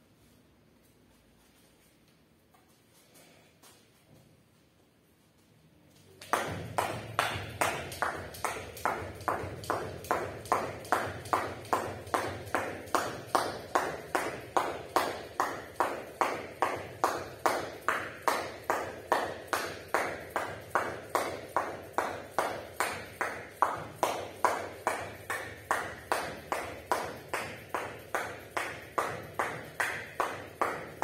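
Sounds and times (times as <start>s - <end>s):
jump rope slapping floor: 6.1s - 31.0s.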